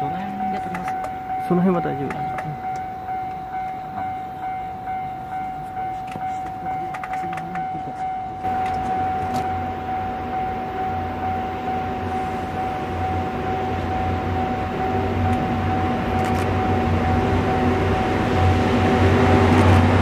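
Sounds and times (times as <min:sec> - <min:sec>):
level crossing alarm ringing: 0:00.0 - 0:19.3
electric locomotive rumble: 0:00.0 - 0:20.0.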